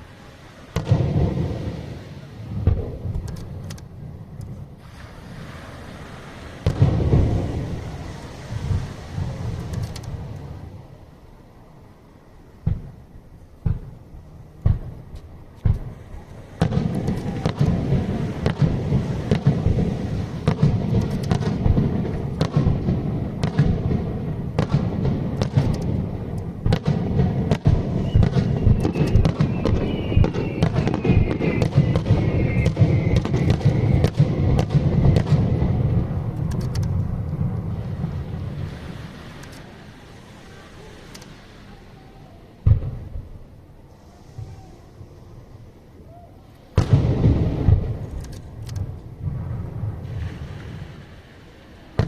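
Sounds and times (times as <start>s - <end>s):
fireworks bangs and crackling: 0.0s - 10.9s, 12.6s - 52.0s.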